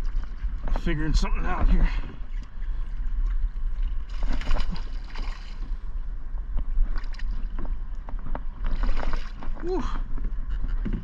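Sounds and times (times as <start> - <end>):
water lapping around boat: 0.0 - 11.0
wind on microphone: 0.0 - 11.0.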